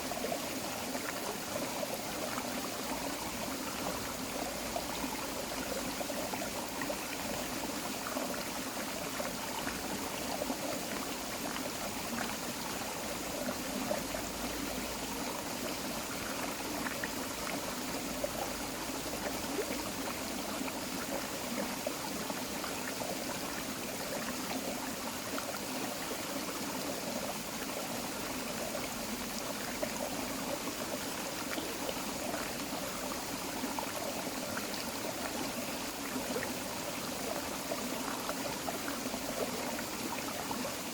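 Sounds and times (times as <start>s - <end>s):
creek water running over rocks: 0.0s - 40.9s.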